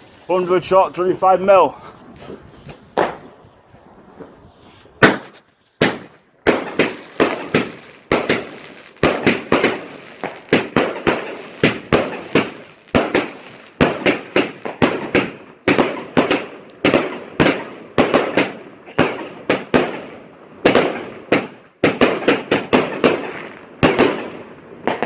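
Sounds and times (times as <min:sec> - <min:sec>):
firework bangs with crackling: 0:02.8 - 0:04.4, 0:05.0 - 0:25.0.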